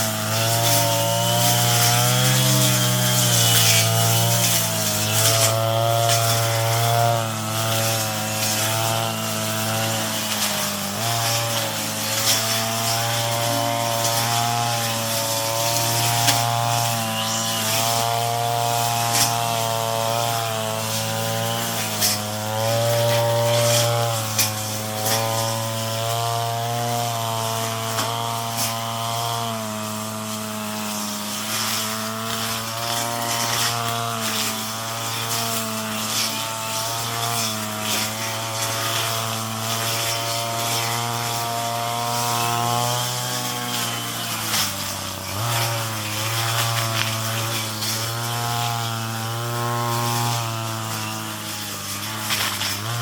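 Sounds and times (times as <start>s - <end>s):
brush cutter engine cutting: 0.0s - 53.0s.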